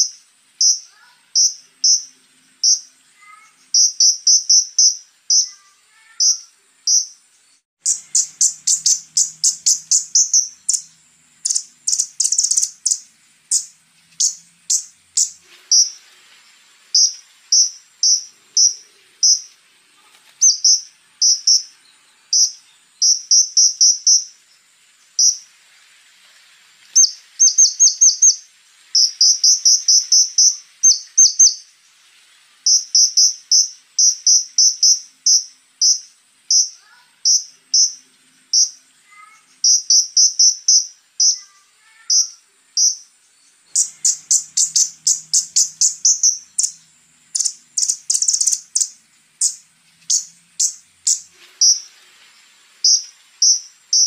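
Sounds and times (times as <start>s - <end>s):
bird high ticking calls: 0.0s - 16.0s, 16.9s - 19.6s, 20.4s - 25.5s, 26.9s - 31.7s, 32.6s - 52.0s, 52.8s - 54.0s
faint lower chirps: 0.0s - 54.0s.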